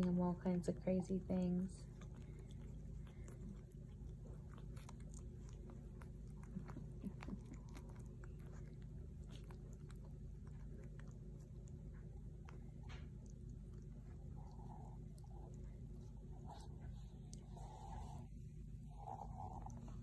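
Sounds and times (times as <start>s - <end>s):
low steady hum: 0.0s - 20.0s
puppies suckling: 0.0s - 20.0s
dog licking: 1.8s - 20.0s.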